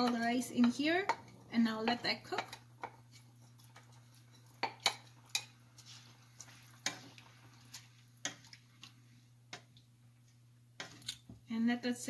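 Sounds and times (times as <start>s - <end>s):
wooden spoon stirring stew: 0.0s - 11.0s.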